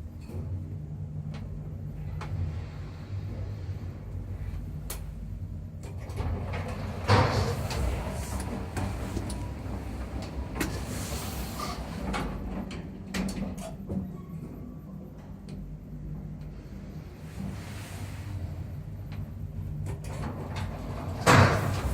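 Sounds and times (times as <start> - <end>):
elevator rumble: 0.0 - 21.9.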